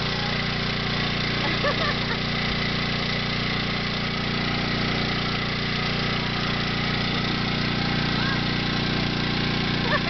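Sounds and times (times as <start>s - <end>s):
electric air blower humming: 0.0s - 10.0s.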